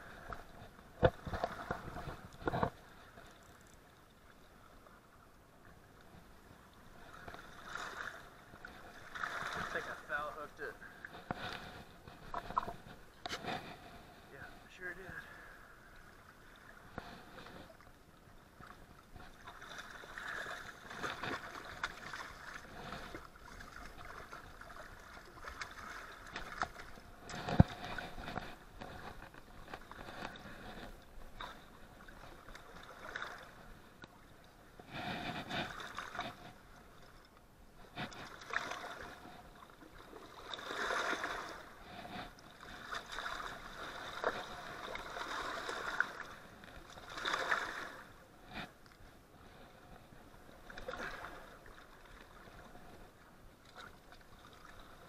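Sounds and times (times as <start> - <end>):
waves lapping against rocks: 0.0 - 55.0.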